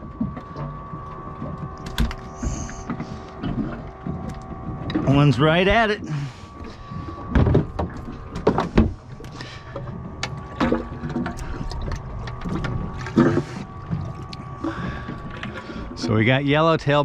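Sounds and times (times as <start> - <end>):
faint steady hum: 0.0 - 17.0
water sloshing and splashing: 0.0 - 17.0.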